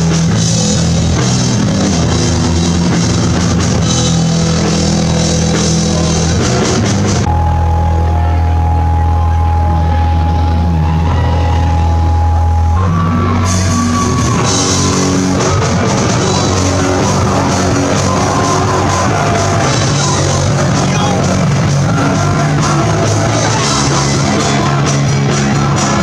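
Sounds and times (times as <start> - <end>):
distorted electric guitar: 0.0 - 26.0
live punk band playing: 0.0 - 26.0.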